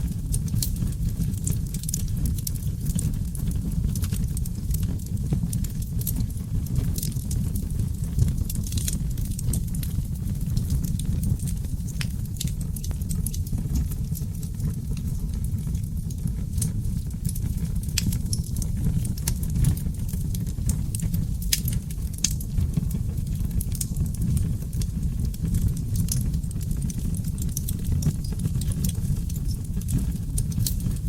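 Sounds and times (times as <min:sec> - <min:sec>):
fire crackles and pops: 0:00.0 - 0:31.0
low roar of flames: 0:00.0 - 0:31.0.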